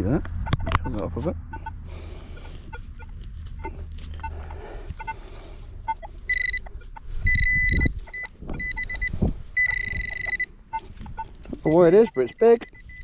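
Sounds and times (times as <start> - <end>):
pinpointer high electronic tone: 0.4 - 1.8, 2.4 - 13.0.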